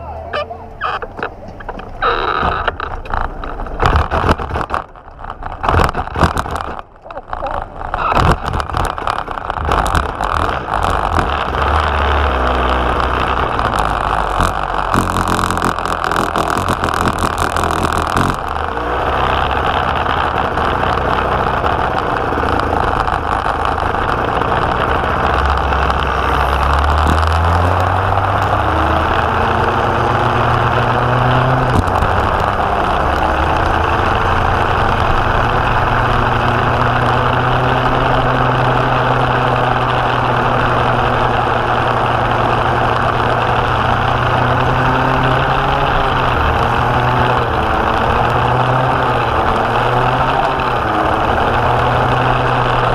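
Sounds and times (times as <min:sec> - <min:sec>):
go-kart engine running hard: 0:00.0 - 0:52.9.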